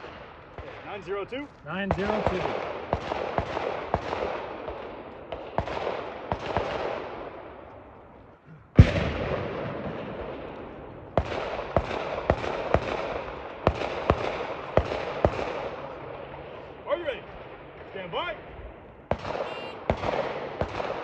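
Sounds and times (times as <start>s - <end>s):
gunshots with rolling echo: 0.0s - 21.0s.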